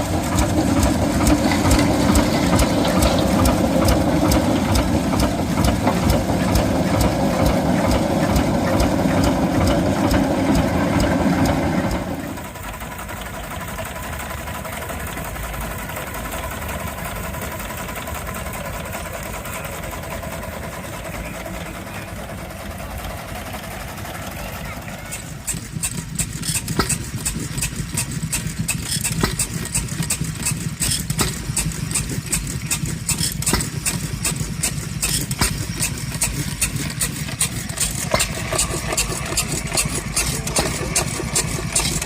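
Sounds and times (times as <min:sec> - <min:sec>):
stationary engine running: 0:00.0 - 0:42.0.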